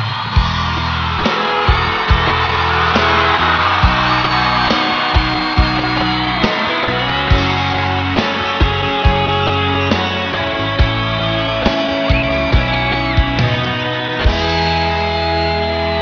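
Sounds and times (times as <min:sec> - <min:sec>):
guitar-led instrumental music: 0:00.1 - 0:16.0.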